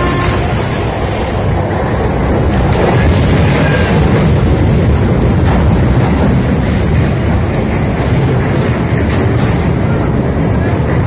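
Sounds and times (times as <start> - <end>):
ship low rumble: 0.0 - 11.0.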